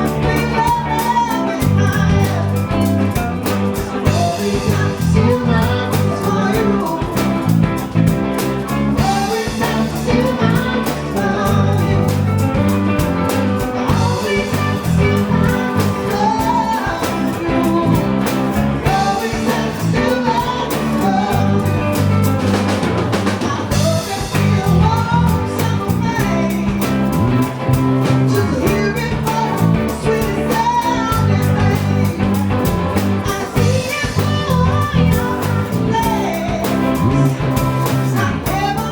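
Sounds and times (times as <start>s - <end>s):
blues-rock band playing: 0.0s - 38.9s
person singing: 0.0s - 38.9s.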